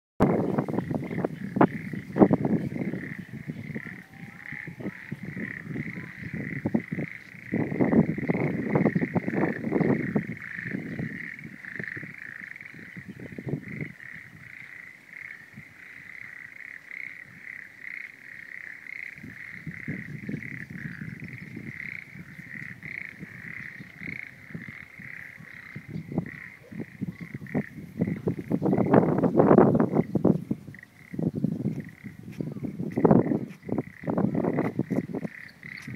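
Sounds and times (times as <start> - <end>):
frogs croaking: 0.2 - 35.9.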